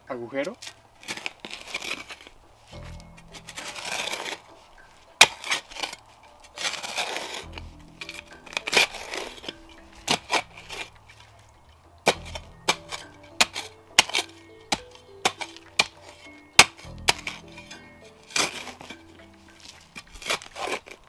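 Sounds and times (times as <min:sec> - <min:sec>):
soft background music: 0:00.0 - 0:21.0
shovel striking stony soil: 0:00.5 - 0:11.4, 0:12.0 - 0:21.0.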